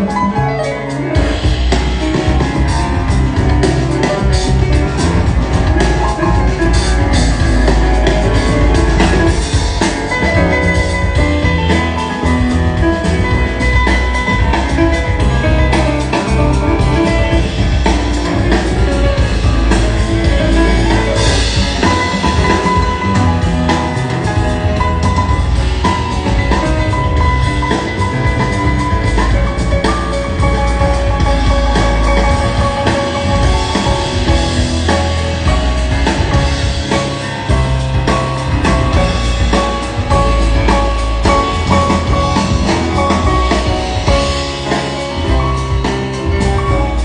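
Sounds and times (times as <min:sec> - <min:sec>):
drum kit: 0:00.0 - 0:47.0
jazz piano: 0:00.0 - 0:47.0
steady bass line: 0:00.0 - 0:47.0.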